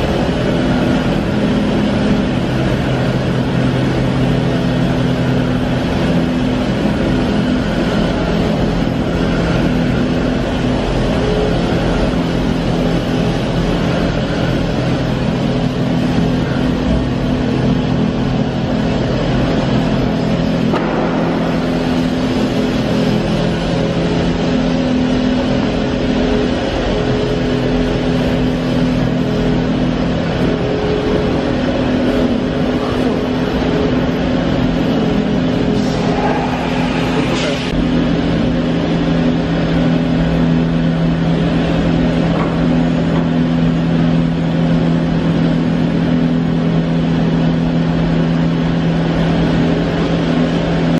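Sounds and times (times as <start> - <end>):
machine motors humming: 0.0 - 50.9.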